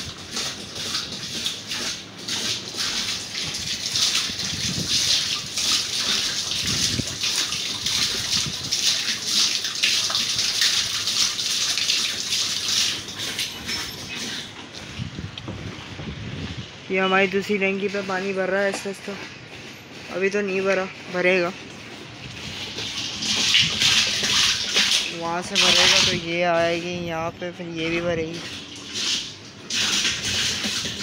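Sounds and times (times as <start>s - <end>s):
water gushing into tank: 0.0s - 26.9s, 27.8s - 31.0s.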